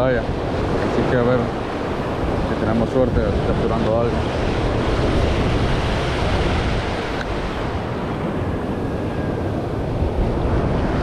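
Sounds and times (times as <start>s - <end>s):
surf washing over rocks: 0.0s - 11.0s
wind rumbling on microphone: 0.0s - 11.0s.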